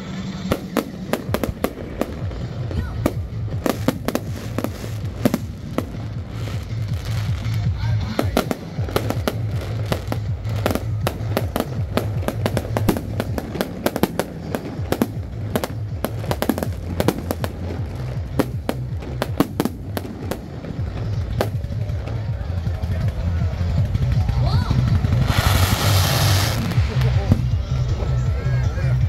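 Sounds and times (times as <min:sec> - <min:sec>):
fireworks bursting: 0:00.0 - 0:28.2
music with low beat: 0:00.0 - 0:29.0.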